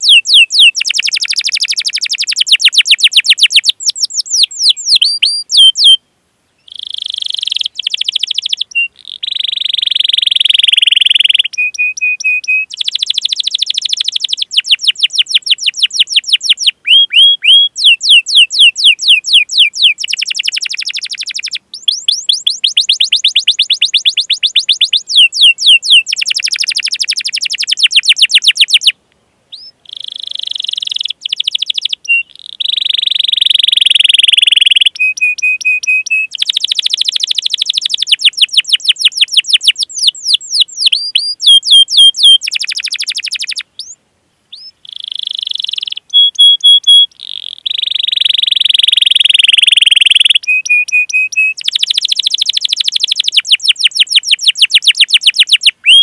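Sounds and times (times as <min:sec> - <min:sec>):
canary singing: 0:00.0 - 0:06.0, 0:06.6 - 0:56.0.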